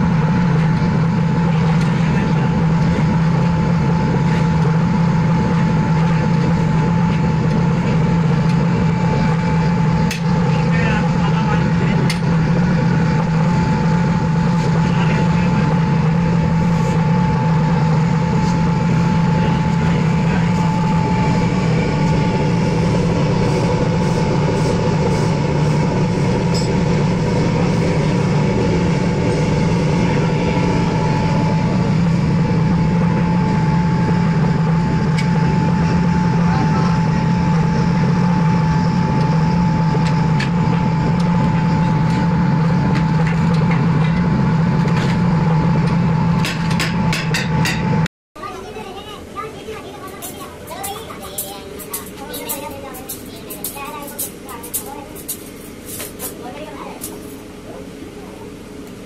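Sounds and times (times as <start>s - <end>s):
furnace roaring: 0.0s - 59.0s.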